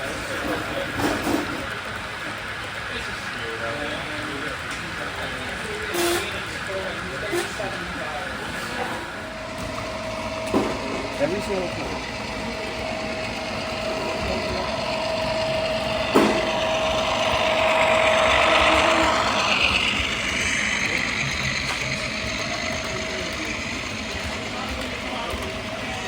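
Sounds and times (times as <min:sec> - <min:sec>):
model train running: 0:00.0 - 0:26.0
steady whine: 0:00.0 - 0:26.0.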